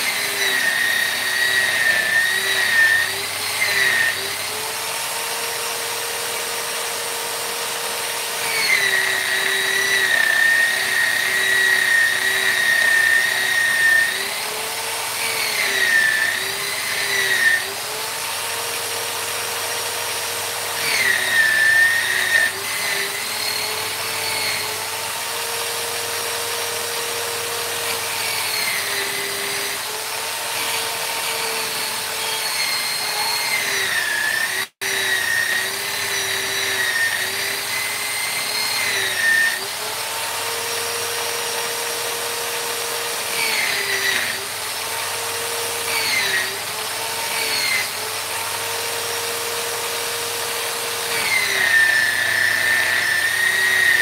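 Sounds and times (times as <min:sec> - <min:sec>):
rotary tool whining on wood: 0:00.0 - 0:54.0.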